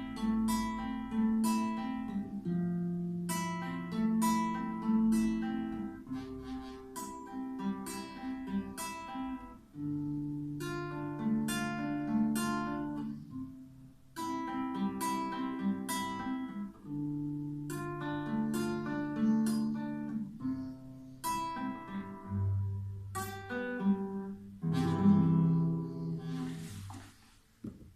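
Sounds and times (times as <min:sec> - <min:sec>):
acoustic guitar strumming chords: 0:00.0 - 0:27.1.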